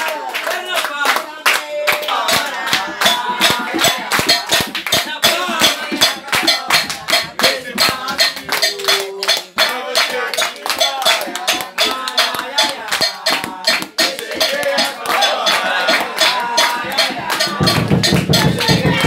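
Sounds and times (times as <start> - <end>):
hand claps: 0.0 - 19.0
voices singing together: 0.0 - 19.0
shaken percussion: 1.9 - 19.0.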